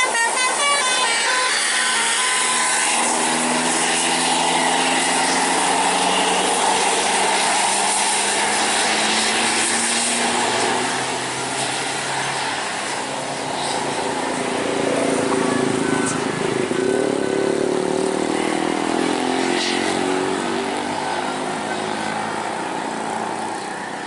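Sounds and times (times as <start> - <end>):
bus engine passing: 0.0 - 24.0.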